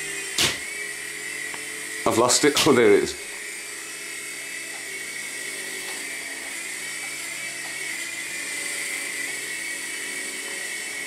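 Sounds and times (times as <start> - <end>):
rc helicopter motor whine: 0.0 - 11.0
rotor whir: 0.0 - 11.0.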